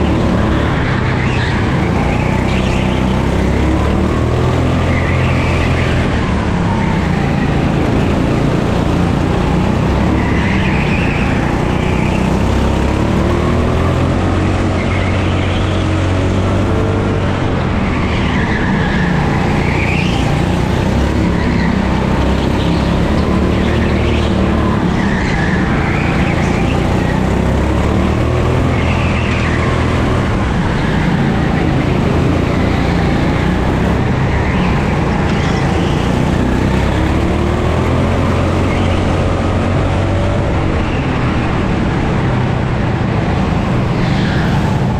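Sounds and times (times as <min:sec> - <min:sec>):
go-kart engine running hard: 0:00.0 - 0:44.9
high tyre squeals: 0:00.0 - 0:44.9.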